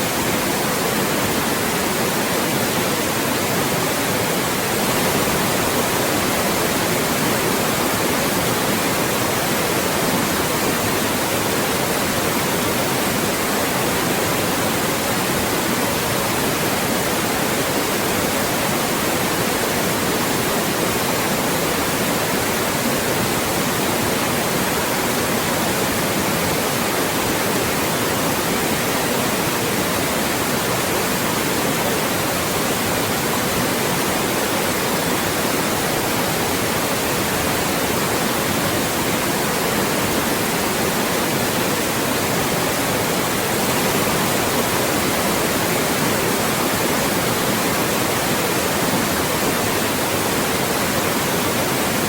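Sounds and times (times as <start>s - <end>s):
loud white noise hiss: 0.0s - 52.0s.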